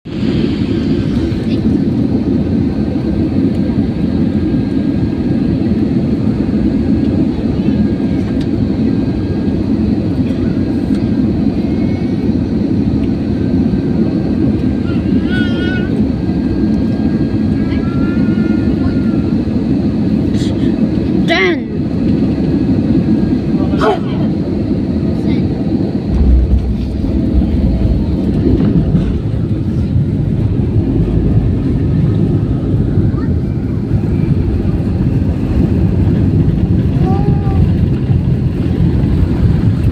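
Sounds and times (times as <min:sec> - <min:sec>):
airplane engines roaring in cabin: 0:00.0 - 0:39.9.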